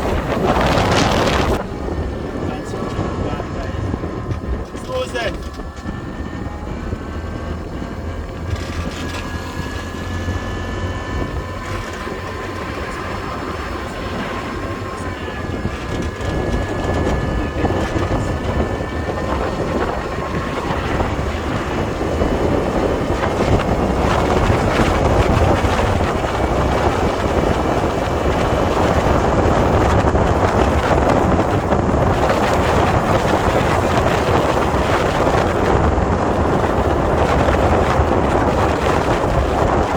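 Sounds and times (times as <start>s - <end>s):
vehicle road noise: 0.0s - 39.9s
wind: 0.0s - 39.9s.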